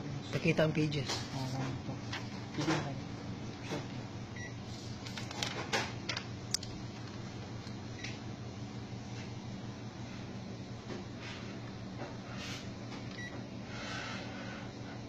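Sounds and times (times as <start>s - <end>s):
office copier humming: 0.0s - 15.0s.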